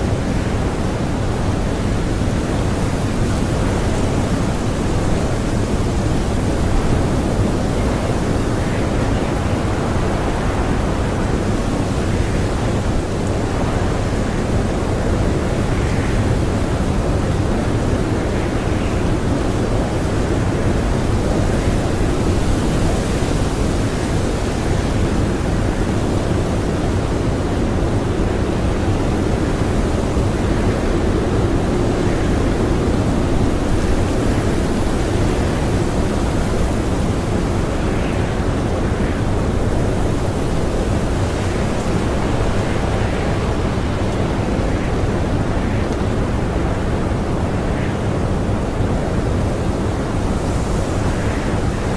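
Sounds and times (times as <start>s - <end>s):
blizzard wind blowing hard: 0.0s - 51.9s.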